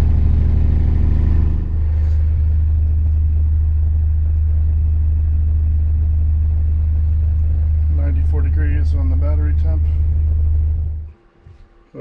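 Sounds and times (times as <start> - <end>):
diesel generator running: 0.0 - 11.6.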